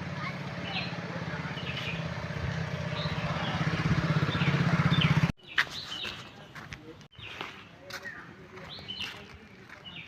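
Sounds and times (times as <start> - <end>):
birds chirping: 0.2 - 10.0.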